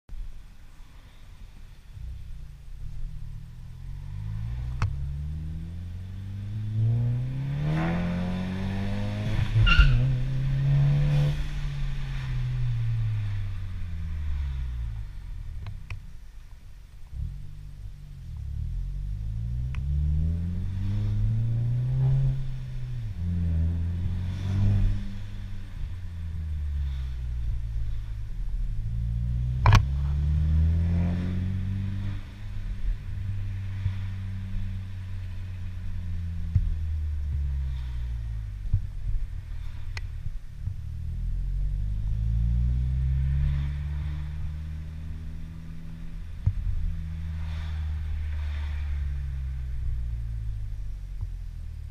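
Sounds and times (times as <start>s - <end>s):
exhaust crack: 0.2s - 51.9s
car engine accelerating: 0.7s - 51.9s.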